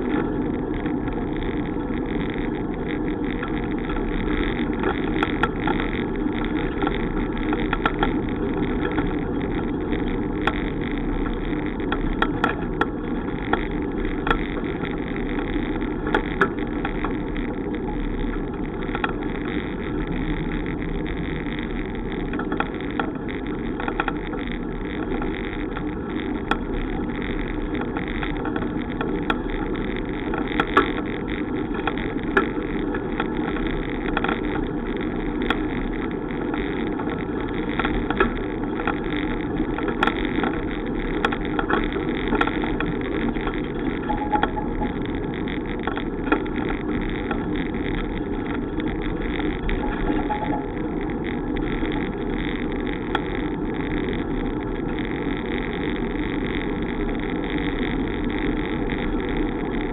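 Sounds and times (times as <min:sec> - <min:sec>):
small clicks and rattles: 0:00.0 - 0:59.9
wind and road rumble: 0:00.0 - 0:59.9.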